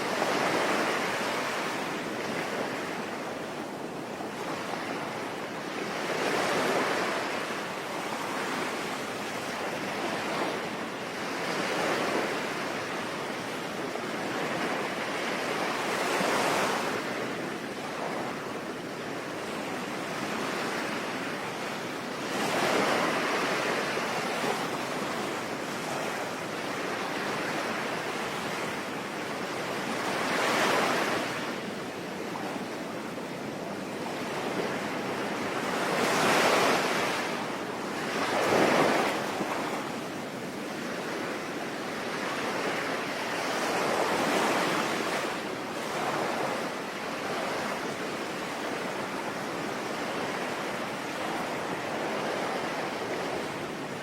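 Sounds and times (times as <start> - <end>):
ocean waves surging onto shore: 0.0 - 54.0.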